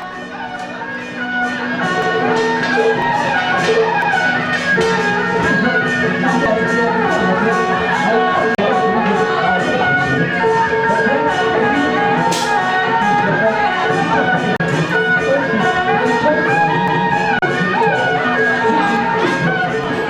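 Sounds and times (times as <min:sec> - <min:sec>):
instrumental music with steady beat: 0:00.0 - 0:20.0.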